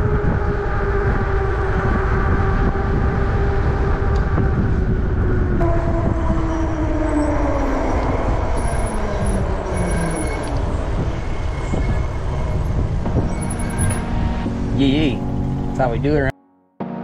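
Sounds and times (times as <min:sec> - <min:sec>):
wind rumbling over microphone: 0:00.0 - 0:16.3
whining tone sliding down: 0:00.2 - 0:15.9.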